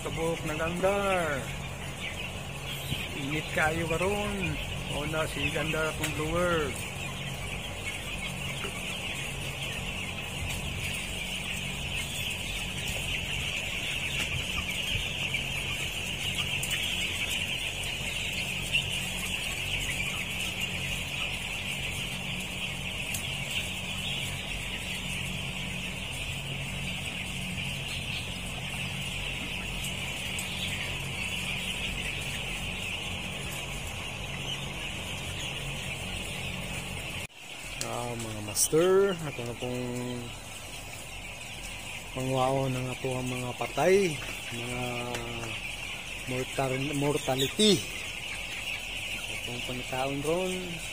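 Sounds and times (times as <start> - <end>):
chicks peeping: 0.0 - 50.9
exhaust fans humming: 0.0 - 50.9.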